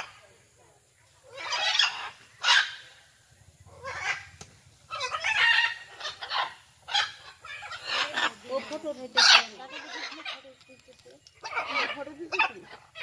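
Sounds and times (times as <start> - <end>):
macaws squawking: 1.3 - 3.0, 3.6 - 10.7, 11.3 - 13.0.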